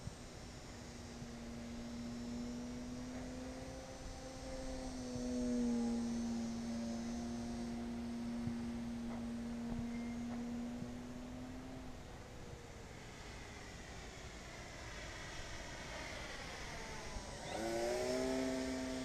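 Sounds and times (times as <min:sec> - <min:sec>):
model plane motor whining: 0:00.0 - 0:19.0.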